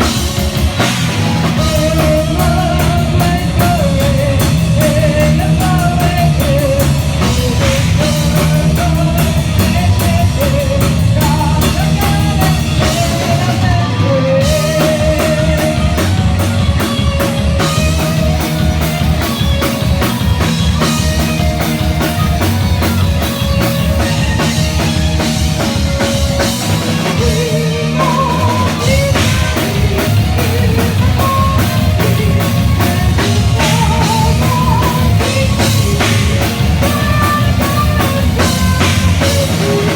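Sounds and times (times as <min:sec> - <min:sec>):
drum kit beating: 0:00.0 - 0:39.9
rock band playing live: 0:00.0 - 0:39.9
wavering lead melody: 0:00.0 - 0:39.9.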